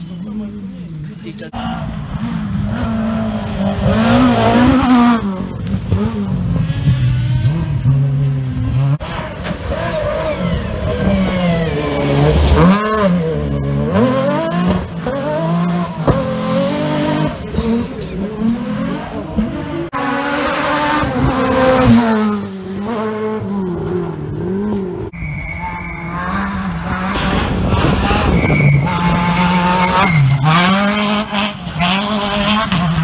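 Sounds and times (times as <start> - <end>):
rally car engine revving hard: 1.6 - 25.1, 26.0 - 33.0.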